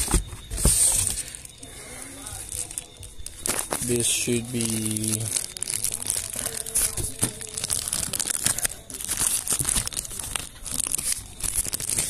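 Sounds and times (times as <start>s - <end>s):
plastic bag crinkling and tearing: 2.2s - 12.0s.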